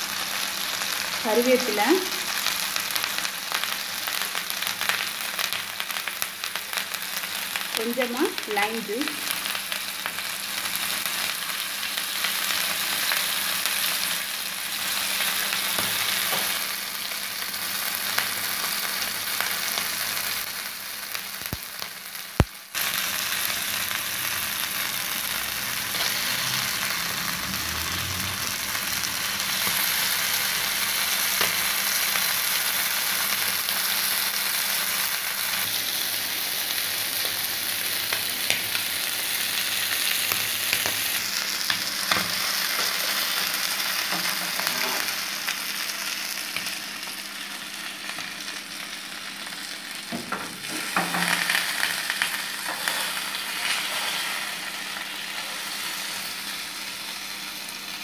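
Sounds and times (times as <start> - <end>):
fish sizzling in oil: 0.0 - 58.0.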